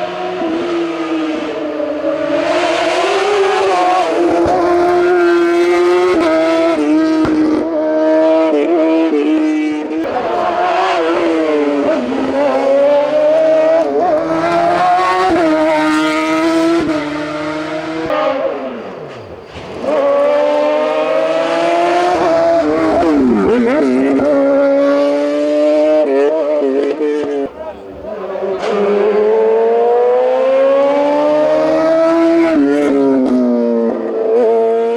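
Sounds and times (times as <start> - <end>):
racing car engine at high revs: 0.0 - 34.9.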